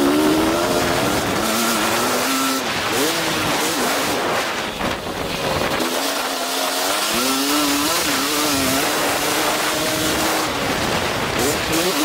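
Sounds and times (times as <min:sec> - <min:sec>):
motocross engine revving: 0:00.0 - 0:12.0
wind rushing over microphone: 0:00.0 - 0:12.0.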